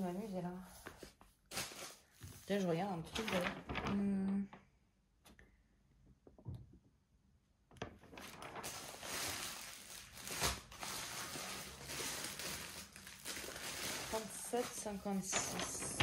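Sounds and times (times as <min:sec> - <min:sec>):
plastic sheet rustling and crinkling: 0:00.0 - 0:04.6, 0:07.7 - 0:16.0.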